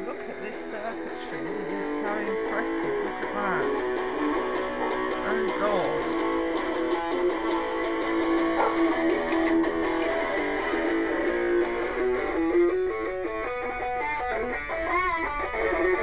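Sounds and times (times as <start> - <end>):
electric guitar through small amplifier: 0.0 - 16.0.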